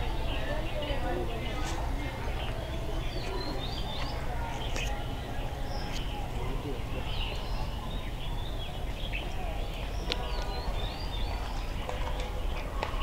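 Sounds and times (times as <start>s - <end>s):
small birds chirping: 0.0s - 13.0s
steady low background noise: 0.0s - 13.0s.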